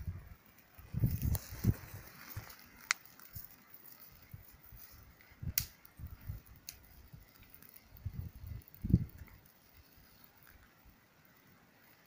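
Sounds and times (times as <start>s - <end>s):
dry wood snapping in campfire: 0.3s - 12.0s.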